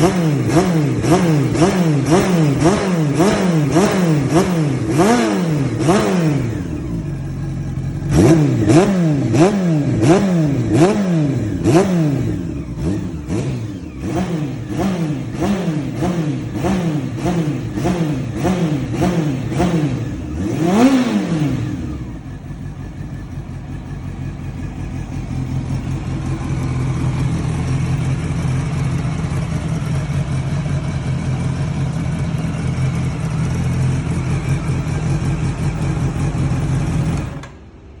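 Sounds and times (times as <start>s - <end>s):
motorcycle engine revving: 0.0s - 37.6s
motorcycle engine idling: 0.0s - 37.8s.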